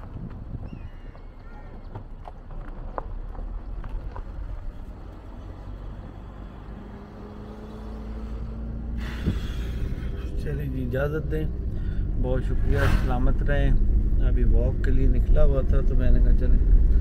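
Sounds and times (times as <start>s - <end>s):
low outdoor rumble: 0.0s - 7.1s, 8.4s - 17.0s.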